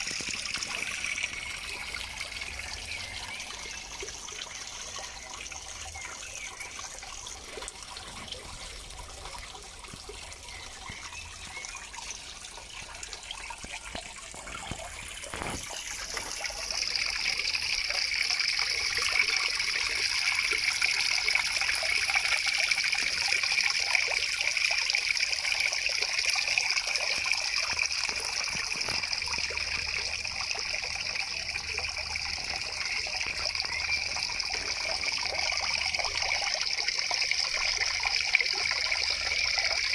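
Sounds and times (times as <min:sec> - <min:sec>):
waterfall trickling into pond: 0:00.0 - 0:39.9.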